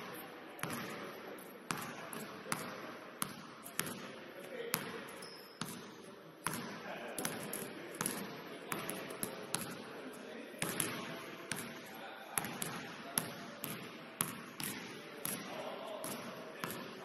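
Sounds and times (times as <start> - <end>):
players' voices: 0.0 - 14.0, 14.6 - 17.0
basketball bouncing on court floor: 0.6 - 1.0, 1.7 - 4.1, 4.7 - 9.8, 10.6 - 11.8, 12.4 - 16.9.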